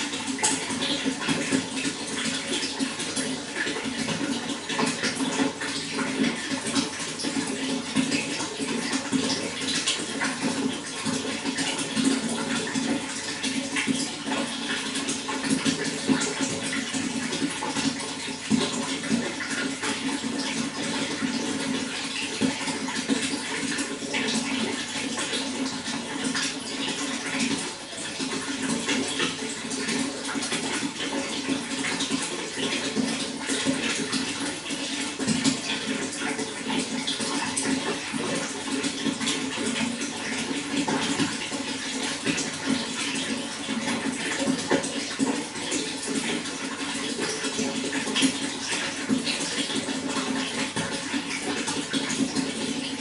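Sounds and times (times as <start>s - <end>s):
running water splashing: 0.0s - 53.0s.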